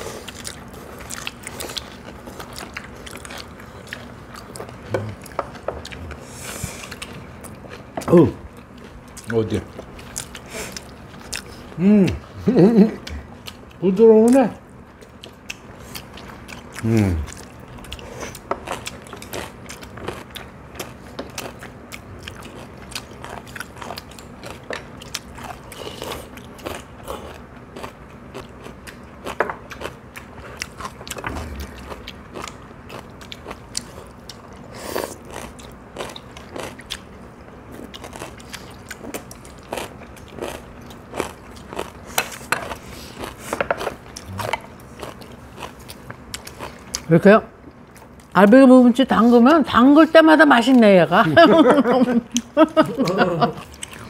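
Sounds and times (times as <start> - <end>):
people chewing and crunching: 0.0 - 49.5, 50.6 - 54.0.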